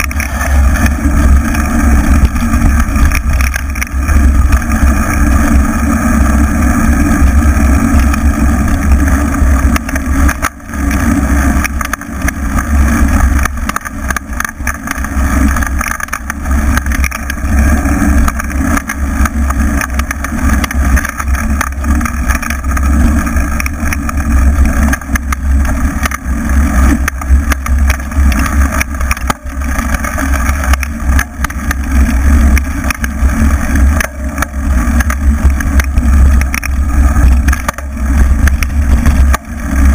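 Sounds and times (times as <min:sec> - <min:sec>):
bike tyre rolling on dirt: 0:00.0 - 0:39.9.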